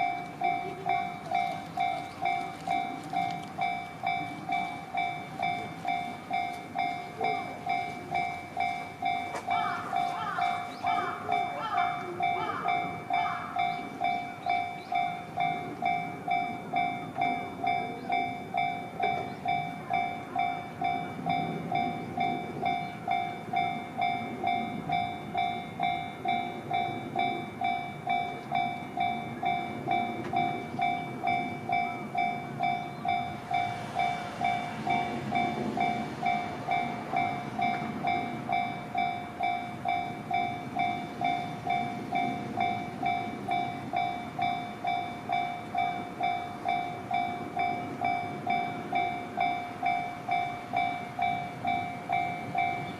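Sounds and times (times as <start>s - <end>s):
level-crossing bell ringing: 0.0s - 52.9s
train wheels rumbling on rails: 0.0s - 52.9s.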